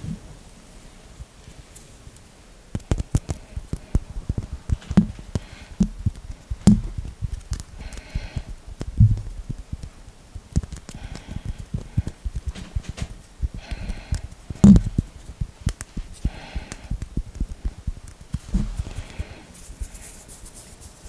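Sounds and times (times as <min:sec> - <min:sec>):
finger taps and clicks: 0:02.7 - 0:20.0
heavier thumps: 0:02.8 - 0:20.0.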